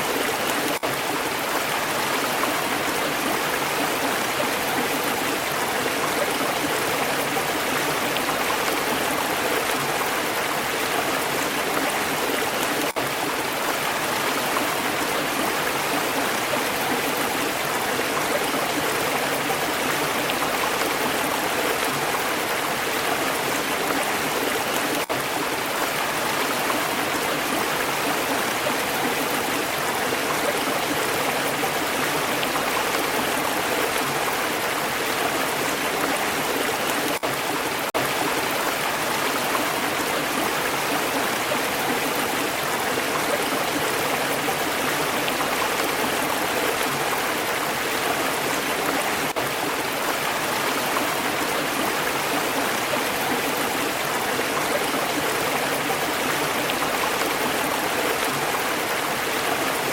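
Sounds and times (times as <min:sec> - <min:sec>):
stream water babbling: 0:00.0 - 0:59.9.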